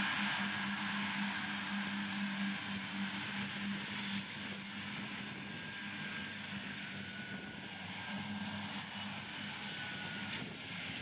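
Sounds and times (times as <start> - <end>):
distant tractor engines droning: 0.0 - 11.0.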